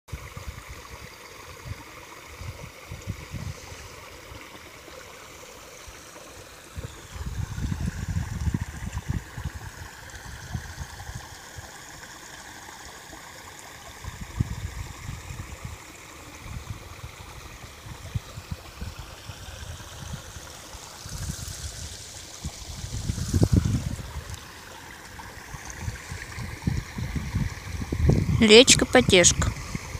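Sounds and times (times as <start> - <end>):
creek flowing and trickling: 0.1 - 29.9.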